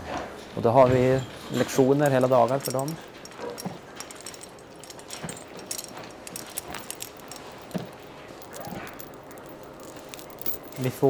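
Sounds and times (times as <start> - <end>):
bridle fittings jingling and clicking: 1.2 - 11.0.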